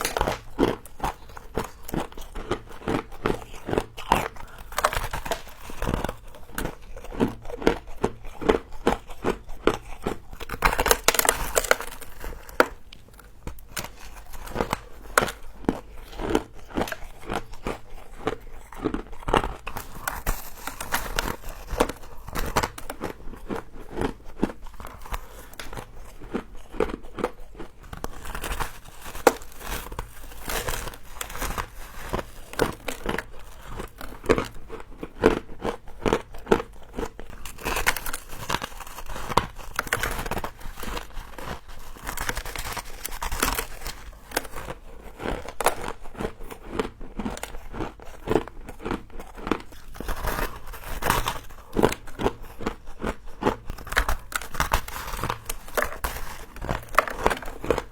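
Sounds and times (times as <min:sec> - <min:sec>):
crunching and chewing frost: 0:00.0 - 0:57.9.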